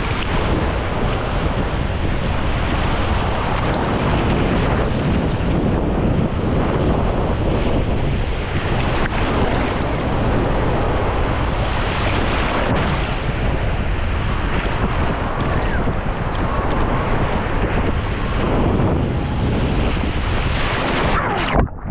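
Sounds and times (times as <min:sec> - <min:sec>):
sea surf on a beach: 0:00.0 - 0:21.6
wind buffeting microphone: 0:00.0 - 0:21.9.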